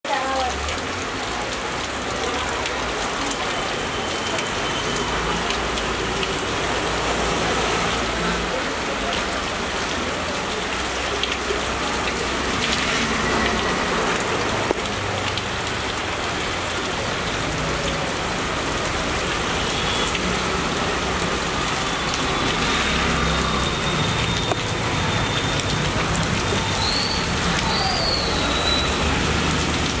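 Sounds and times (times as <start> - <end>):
heavy rain on foliage: 0.0 - 30.0.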